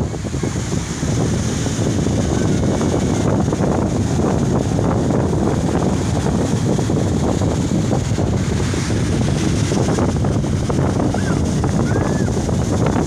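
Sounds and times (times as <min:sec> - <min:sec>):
storm surf rushing: 0:00.0 - 0:13.0
wind buffeting microphone: 0:00.0 - 0:13.0.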